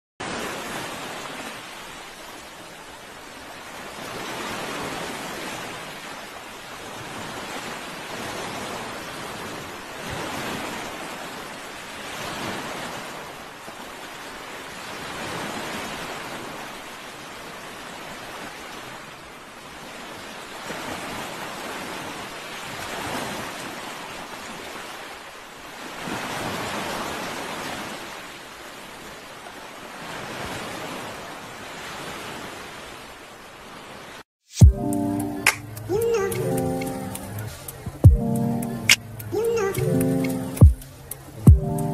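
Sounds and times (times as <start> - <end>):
waves washing in: 0.2 - 41.9.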